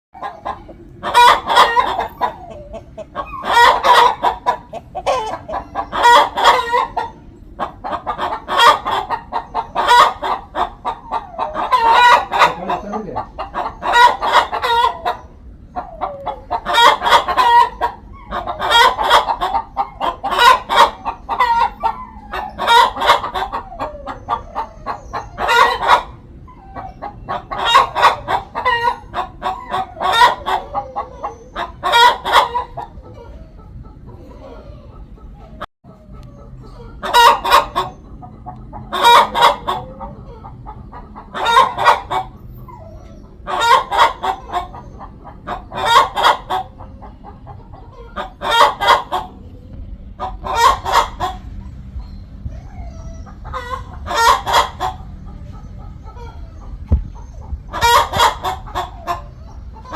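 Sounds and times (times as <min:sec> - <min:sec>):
hen cackling: 0:00.2 - 0:59.9.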